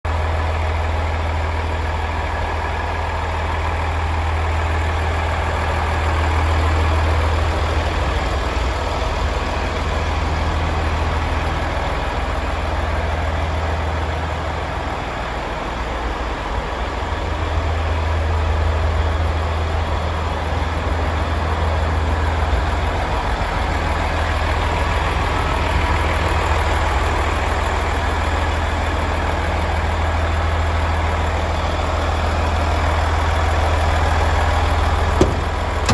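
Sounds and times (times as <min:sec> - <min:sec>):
diesel truck engine idling: 0:00.1 - 0:35.9.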